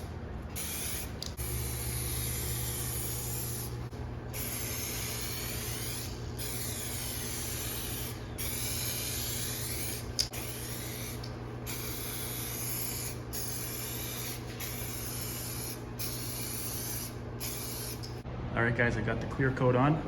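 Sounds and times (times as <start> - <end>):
steady low hum: 0.0 - 20.0
spray gun hissing: 0.6 - 18.2.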